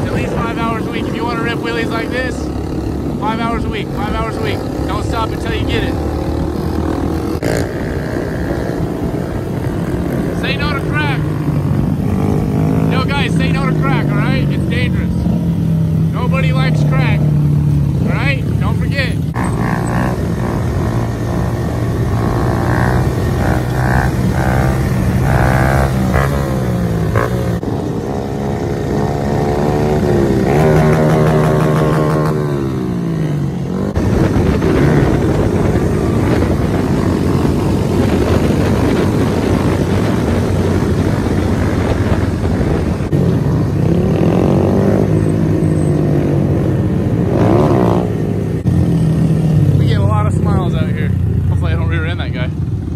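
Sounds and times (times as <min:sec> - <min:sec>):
motorbike engines revving: 0:00.0 - 0:52.9.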